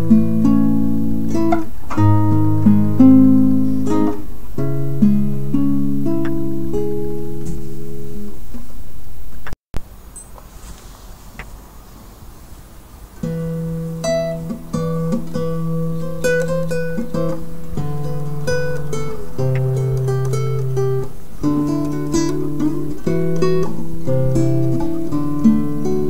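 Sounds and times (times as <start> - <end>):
acoustic guitar music: 0.0 - 8.6, 13.1 - 26.0.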